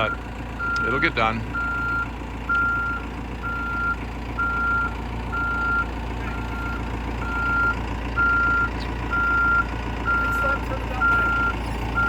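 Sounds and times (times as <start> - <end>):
diesel engine running: 0.0 - 12.0
reverse alarm beeping: 0.0 - 12.0.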